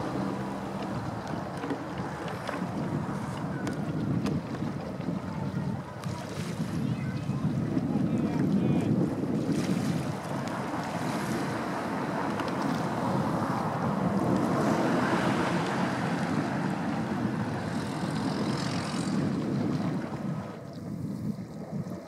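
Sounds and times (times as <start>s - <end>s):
choppy water: 0.0s - 22.0s
wind buffeting microphone: 0.0s - 22.0s.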